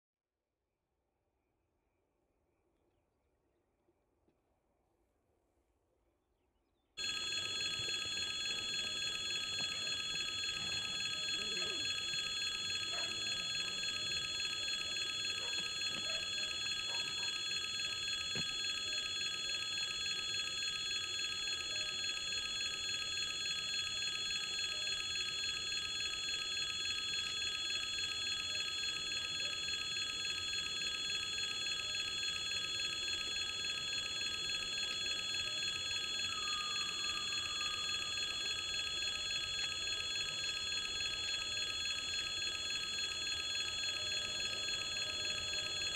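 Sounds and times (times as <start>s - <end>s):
level crossing alarm ringing: 7.0s - 45.9s.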